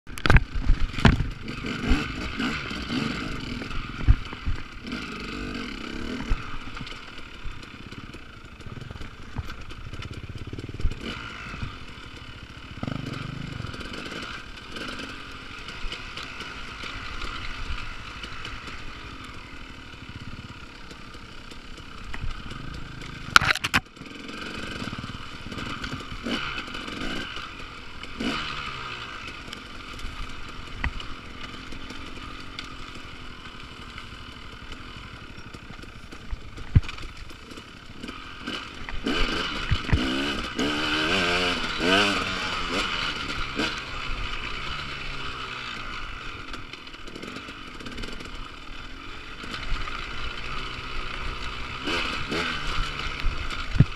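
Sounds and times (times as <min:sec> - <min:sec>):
motorcycle engine revving: 0:00.1 - 0:53.9.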